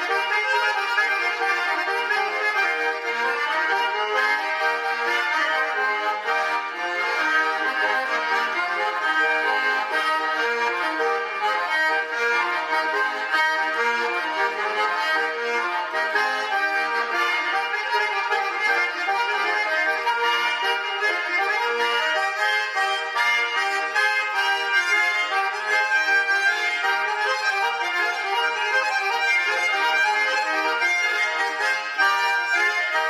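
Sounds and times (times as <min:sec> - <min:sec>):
button accordion playing dance tune: 0:00.0 - 0:33.0.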